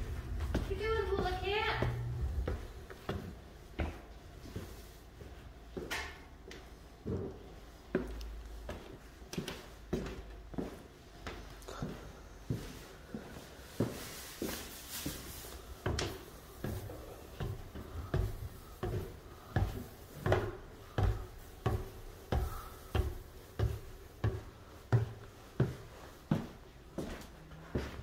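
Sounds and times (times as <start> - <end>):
footsteps on wooden floor: 0.0 - 28.0.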